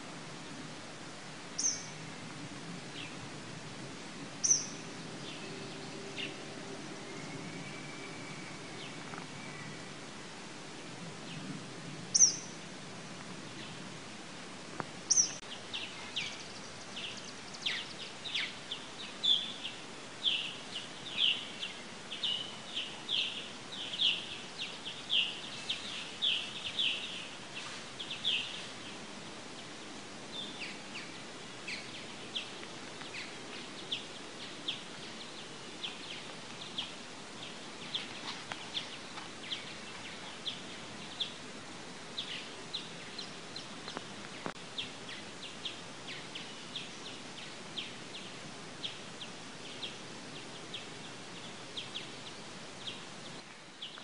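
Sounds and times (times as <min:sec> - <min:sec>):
faint outdoor ambience: 0:00.0 - 0:54.0
songbird chirping: 0:01.4 - 0:02.2, 0:04.4 - 0:10.3, 0:12.1 - 0:12.7, 0:14.8 - 0:54.0.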